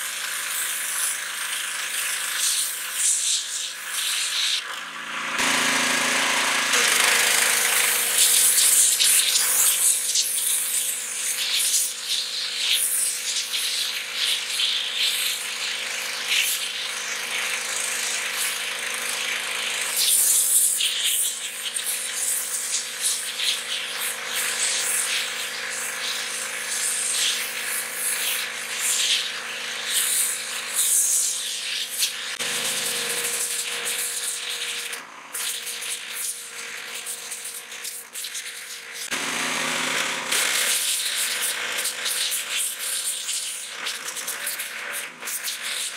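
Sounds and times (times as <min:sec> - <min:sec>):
pressure washer machine hum: 0:00.0 - 0:45.9
pressure washer spraying water: 0:00.0 - 0:45.9.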